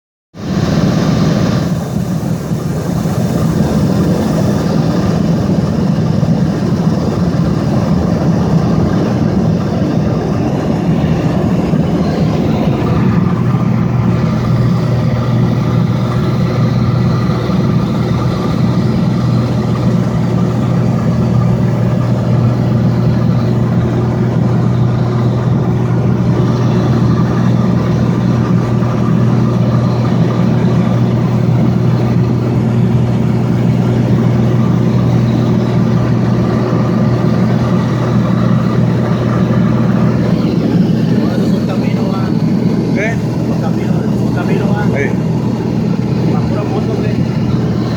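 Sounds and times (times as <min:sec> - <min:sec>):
light aircraft engine droning: 0:00.4 - 0:47.9.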